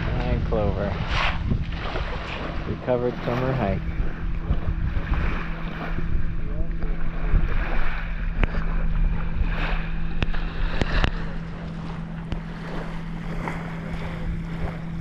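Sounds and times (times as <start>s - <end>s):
low motor-like hum: 0.0s - 15.0s
low rumbling: 0.0s - 15.0s.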